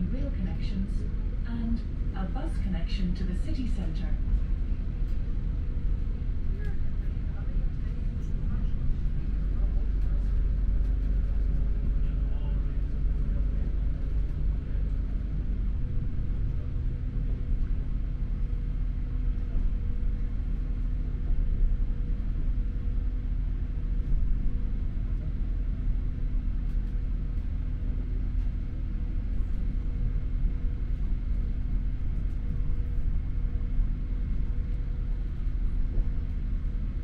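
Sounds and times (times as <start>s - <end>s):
steady hum: 0.0s - 37.0s
train engine rumble: 0.0s - 37.0s.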